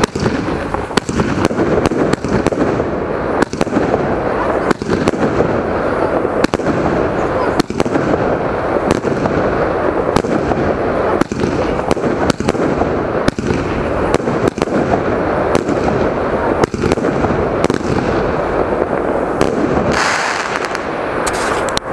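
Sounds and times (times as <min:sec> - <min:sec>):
fireworks cracking: 0:00.0 - 0:21.9.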